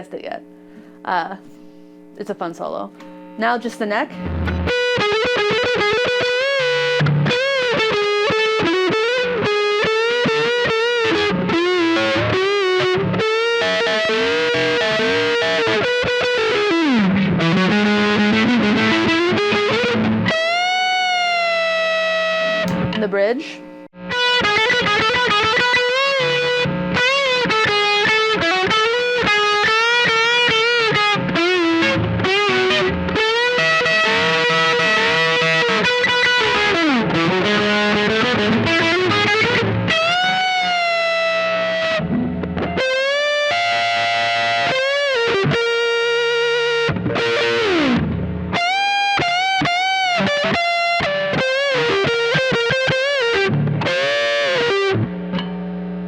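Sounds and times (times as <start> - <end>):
overdriven electric guitar lead: 2.9 - 56.0.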